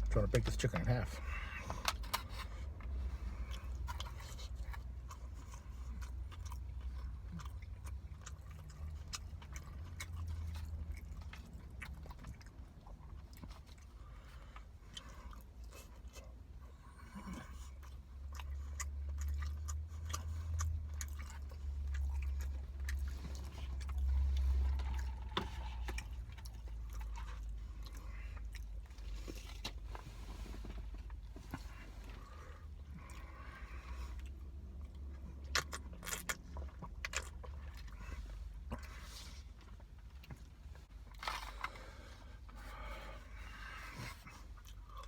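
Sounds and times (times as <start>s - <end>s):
low steady rumble: 0.0s - 45.0s
chewing: 0.4s - 45.0s.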